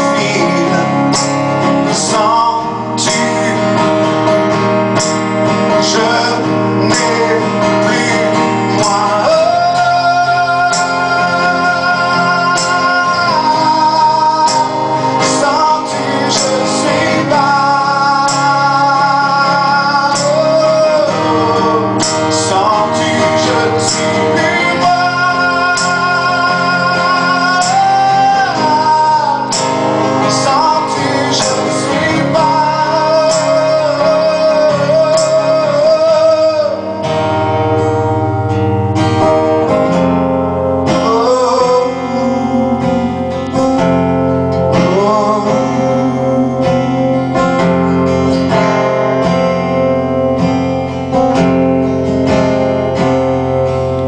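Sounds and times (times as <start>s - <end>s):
man singing: 0.0s - 38.0s, 39.2s - 54.0s
guitar accompaniment: 0.0s - 54.0s.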